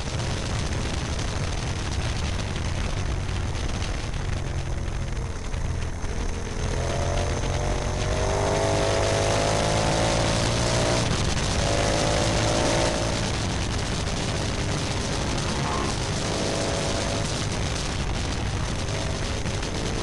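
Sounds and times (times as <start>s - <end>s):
motorcycle engine revving: 0.0s - 20.0s
wind noise: 0.0s - 20.0s.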